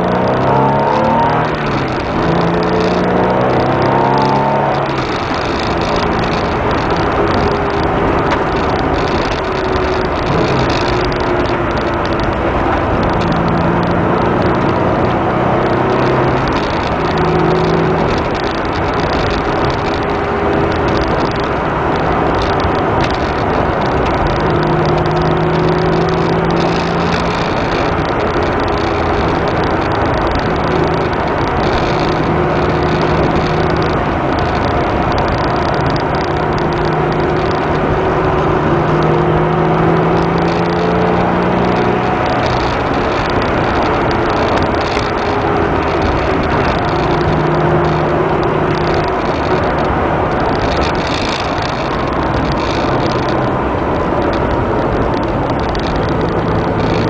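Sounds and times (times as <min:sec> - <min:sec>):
car engine running: 0:00.0 - 0:57.0
road and tyre noise: 0:00.0 - 0:57.0.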